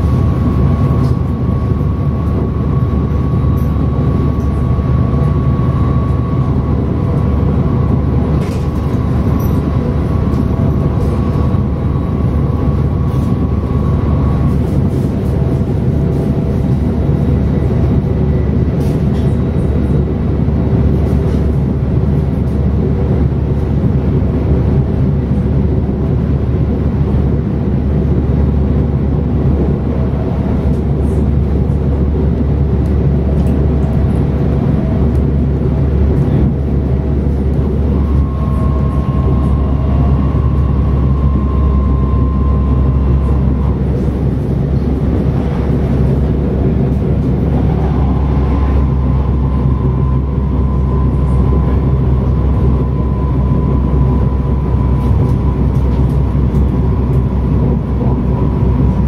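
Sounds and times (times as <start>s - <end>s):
traction drive whine: 0.0s - 59.0s
train wheels rumbling on track: 0.0s - 59.0s.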